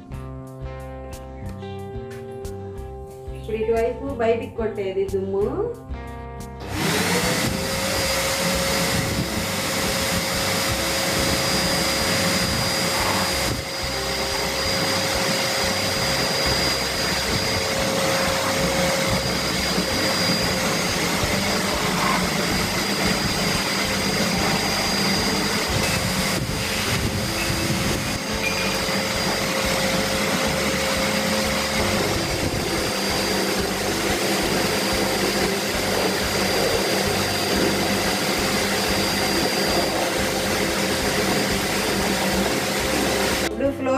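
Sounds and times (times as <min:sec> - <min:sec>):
vacuum cleaner running: 0:06.6 - 0:43.9.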